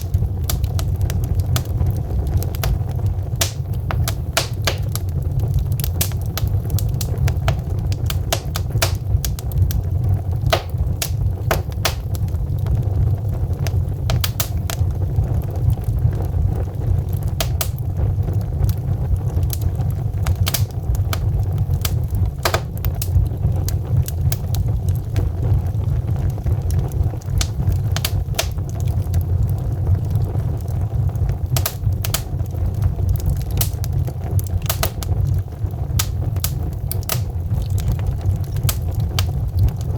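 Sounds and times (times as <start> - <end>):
burning logs crackling: 0.0 - 39.9
fire roaring in fireplace: 0.0 - 39.9.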